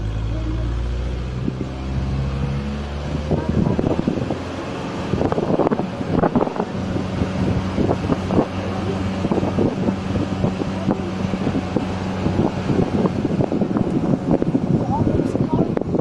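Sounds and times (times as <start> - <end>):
car engine running: 0.0 - 16.0
wind buffeting microphone: 0.0 - 16.0.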